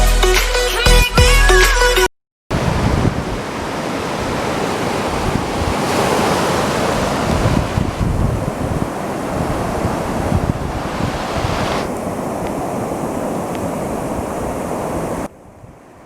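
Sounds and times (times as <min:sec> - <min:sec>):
ocean surf: 0:02.5 - 0:16.0
wind buffeting microphone: 0:02.5 - 0:16.0.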